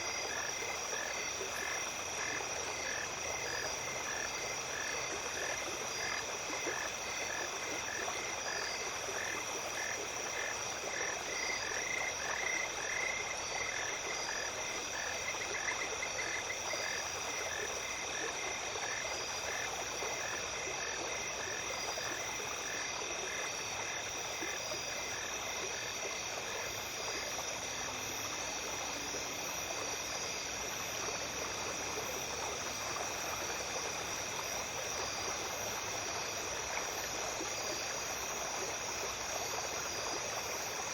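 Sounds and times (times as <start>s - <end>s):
creek running: 0.0s - 40.9s
insects trilling: 0.0s - 40.9s.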